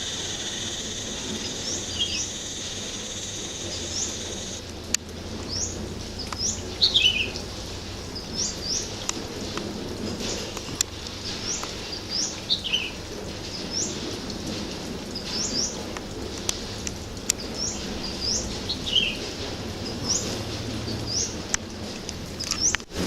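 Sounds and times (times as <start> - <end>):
birds chirping: 0.0 - 4.7, 5.4 - 14.1, 15.1 - 22.9.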